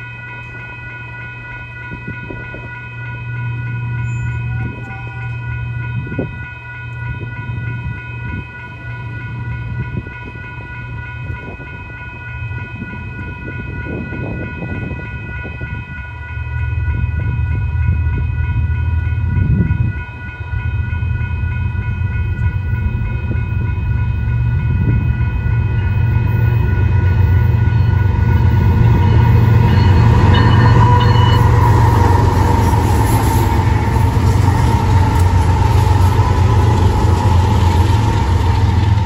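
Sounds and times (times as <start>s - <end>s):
diesel locomotives rumbling: 0.0s - 39.0s
railroad crossing bell ringing: 0.0s - 39.0s.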